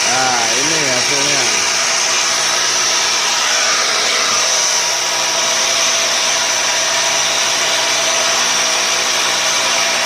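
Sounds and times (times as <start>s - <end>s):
lathe machine whining: 0.0s - 10.0s.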